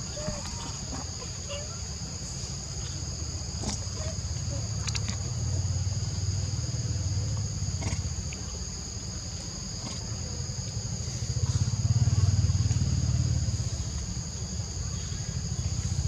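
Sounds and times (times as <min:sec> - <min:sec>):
high drone of insects: 0:00.0 - 0:16.0.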